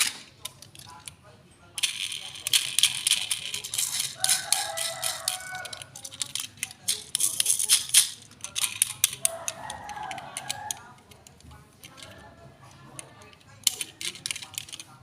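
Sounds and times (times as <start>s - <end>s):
plastic rattling and clicking: 0.0s - 1.2s, 1.8s - 15.0s.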